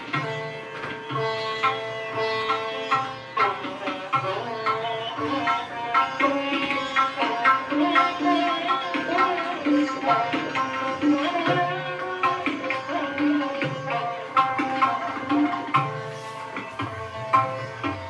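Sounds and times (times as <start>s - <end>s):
plucked string melody: 0.0s - 18.0s.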